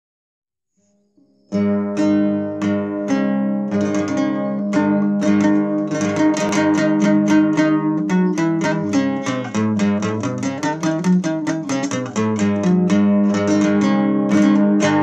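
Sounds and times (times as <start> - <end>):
plucked lute strings: 1.5 - 15.0.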